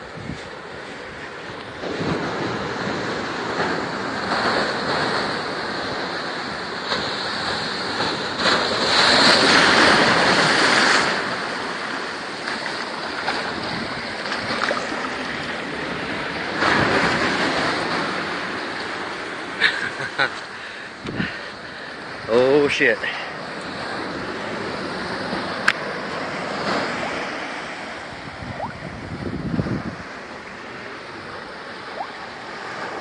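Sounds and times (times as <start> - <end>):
ocean surf breaking: 0.0 - 33.0
wave crashing on rocks: 0.1 - 20.3, 21.1 - 33.0.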